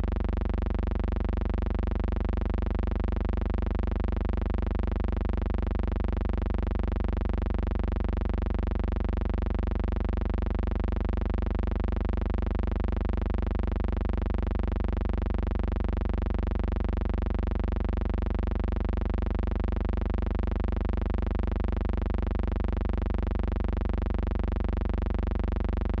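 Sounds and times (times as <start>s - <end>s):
electrical hum-buzz: 0.0s - 26.0s.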